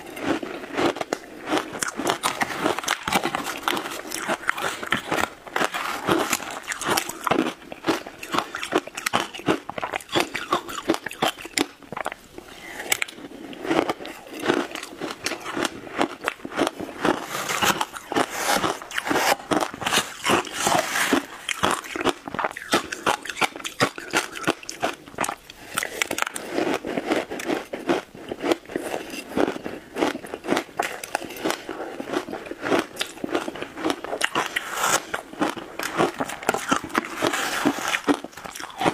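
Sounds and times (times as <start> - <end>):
ice crunching while chewed: 0.0 - 38.9.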